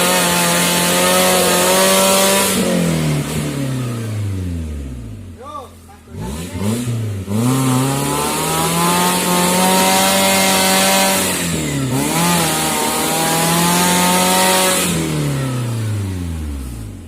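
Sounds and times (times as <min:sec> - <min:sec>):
car engine revving high: 0:00.0 - 0:05.4, 0:06.0 - 0:17.0.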